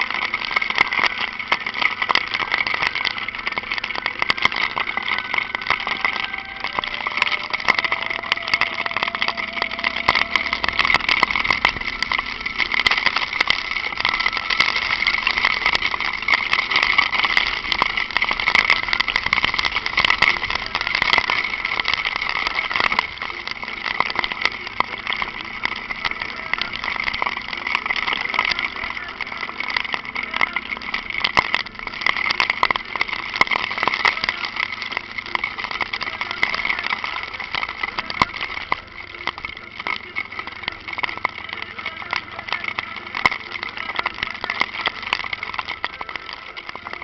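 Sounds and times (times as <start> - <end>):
rain hiss: 0.0 - 47.0
small ticks of rain: 0.0 - 47.0.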